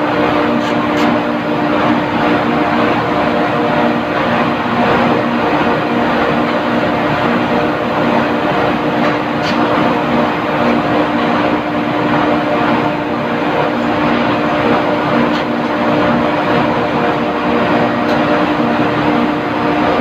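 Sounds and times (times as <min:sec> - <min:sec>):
constant hum: 0:00.0 - 0:20.0.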